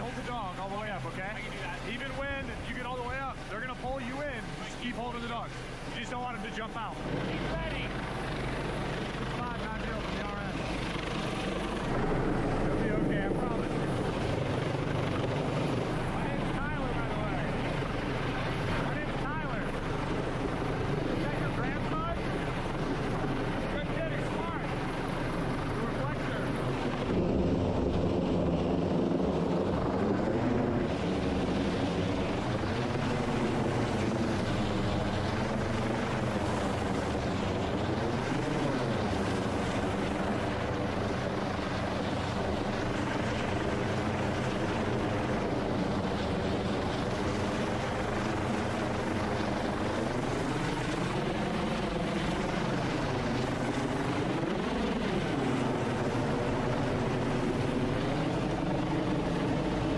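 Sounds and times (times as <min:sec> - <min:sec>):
helicopter engines and rotors: 0:00.0 - 0:59.9.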